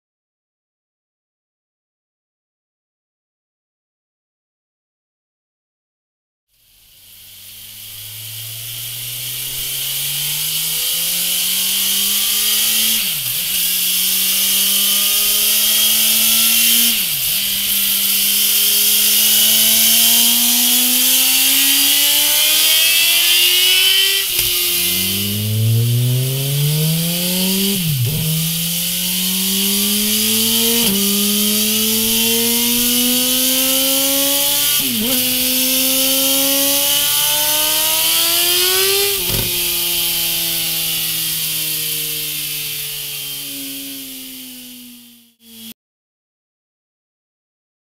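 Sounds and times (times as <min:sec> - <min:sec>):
motorcycle engine revving on a dyno: 0:06.5 - 0:45.8.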